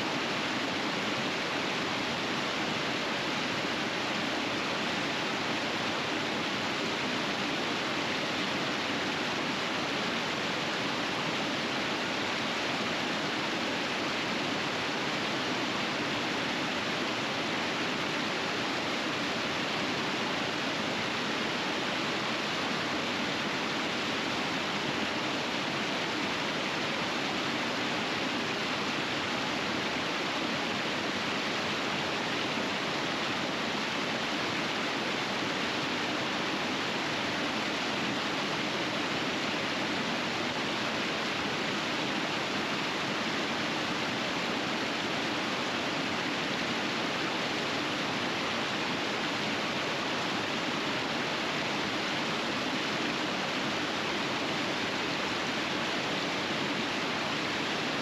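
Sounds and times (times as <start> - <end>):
river rushing over rapids: 0.0 - 58.0.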